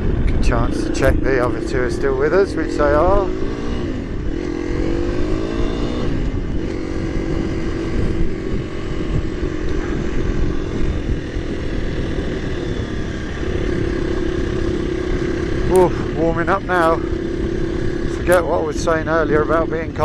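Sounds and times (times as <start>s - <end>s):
dirt bike engine running: 0.0s - 20.0s
low rumble: 0.0s - 20.0s.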